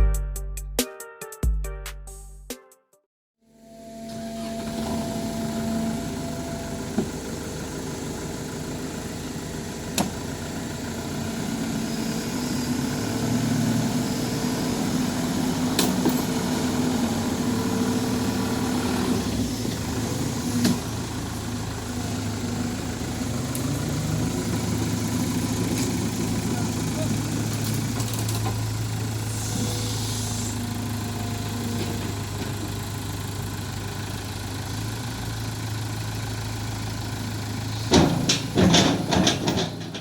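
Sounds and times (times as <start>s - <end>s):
heavy diesel machinery engine: 3.6s - 40.0s.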